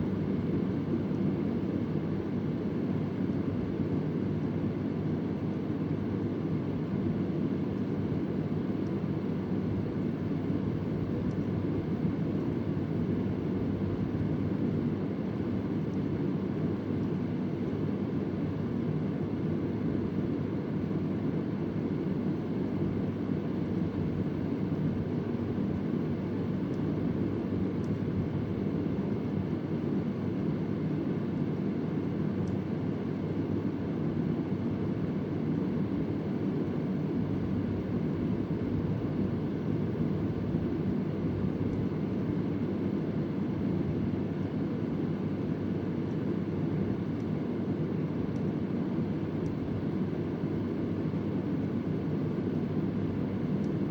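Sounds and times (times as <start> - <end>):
electric fan running: 0.0 - 53.9.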